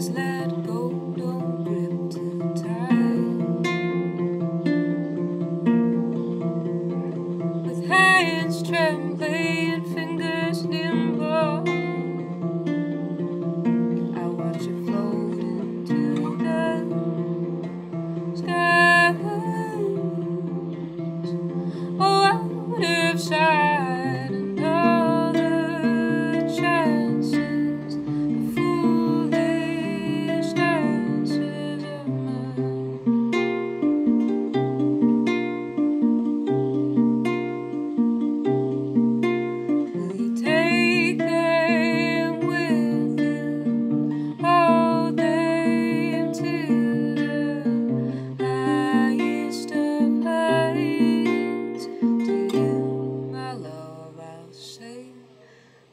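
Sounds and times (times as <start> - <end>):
woman singing: 0.0 - 5.3, 6.0 - 34.0, 39.6 - 55.5
acoustic guitar chords: 0.0 - 55.5.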